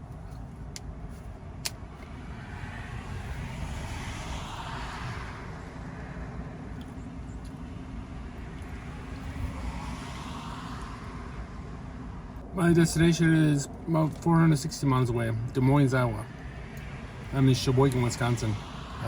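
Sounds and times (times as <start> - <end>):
low vehicle rumble: 0.0 - 19.0
vehicle passing: 0.0 - 19.0.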